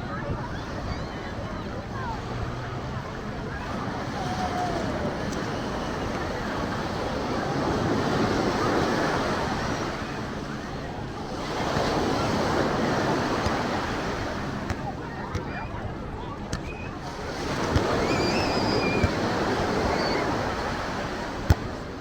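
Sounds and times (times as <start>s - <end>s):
ocean surf breaking: 0.0s - 15.0s, 17.0s - 22.0s.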